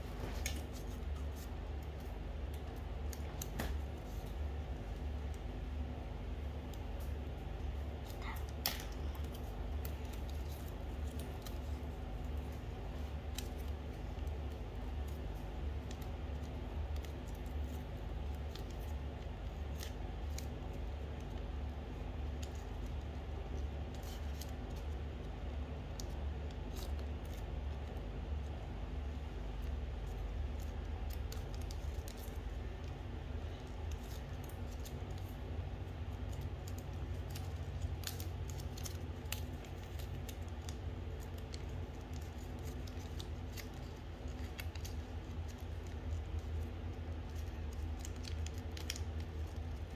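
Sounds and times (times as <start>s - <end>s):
paper clicks and crinkles: 0.0s - 49.9s
steady low hum: 0.0s - 49.9s.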